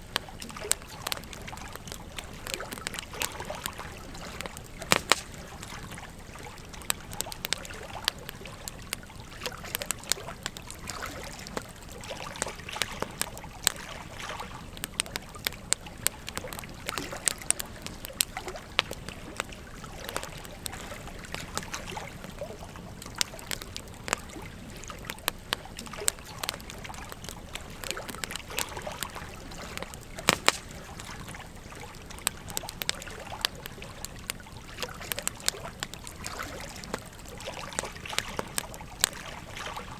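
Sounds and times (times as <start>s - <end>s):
campfire crackling and popping: 0.0s - 39.9s
stream babbling: 0.0s - 39.9s.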